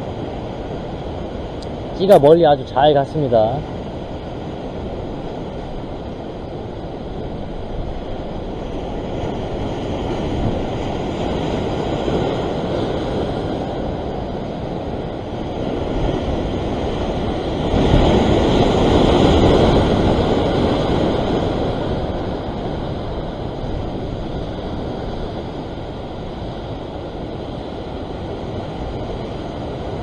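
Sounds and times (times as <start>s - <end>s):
ocean waves washing against rock: 0.0s - 30.0s.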